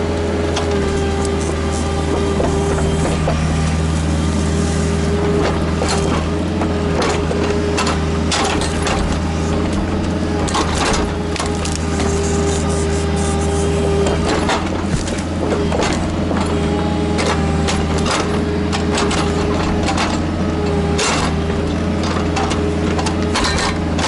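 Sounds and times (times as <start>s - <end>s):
diesel engine with whine: 0.0s - 24.0s.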